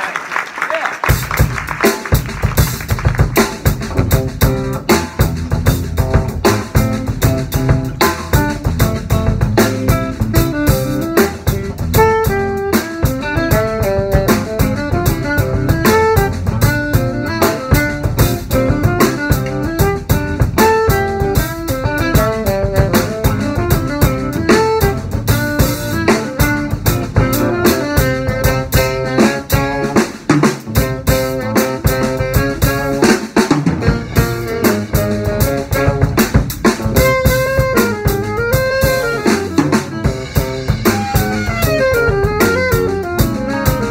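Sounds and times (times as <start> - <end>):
drum kit: 1.0 - 43.9
fast melody line: 1.1 - 43.9
guitar: 2.4 - 43.9.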